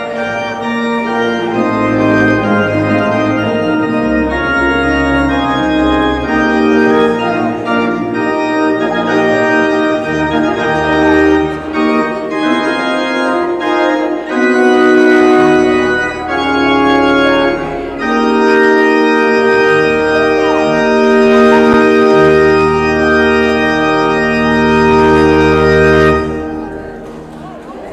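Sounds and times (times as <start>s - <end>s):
organ playing sustained chords: 0.0s - 27.9s.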